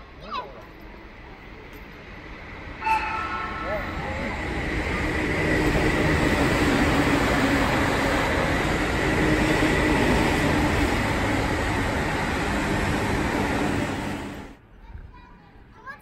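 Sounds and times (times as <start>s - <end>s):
train wheels rumbling on rail: 0.0s - 14.6s.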